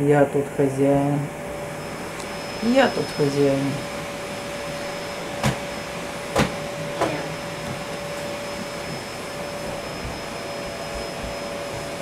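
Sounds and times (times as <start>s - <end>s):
faint steady whine: 0.0s - 12.0s
machine whirring hum: 0.0s - 12.0s.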